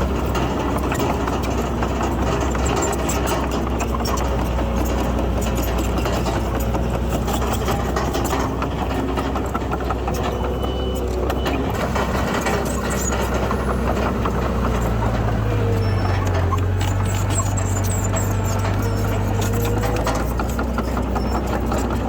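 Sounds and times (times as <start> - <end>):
bulldozer diesel engine running: 0.0 - 22.0
metallic clanks and clicks: 0.0 - 22.0.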